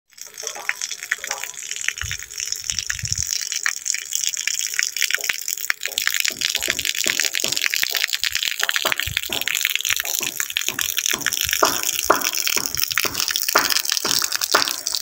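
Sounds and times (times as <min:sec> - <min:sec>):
water gushing and splashing: 0:00.1 - 0:15.0.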